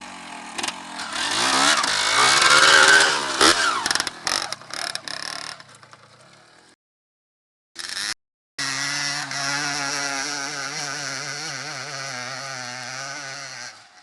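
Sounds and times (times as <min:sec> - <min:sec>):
motorcycle engine revving: 0:00.0 - 0:06.8, 0:07.8 - 0:14.0.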